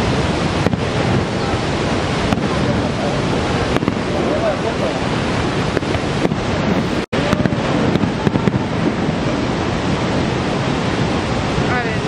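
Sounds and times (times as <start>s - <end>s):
roar of waterfall: 0.0s - 12.0s.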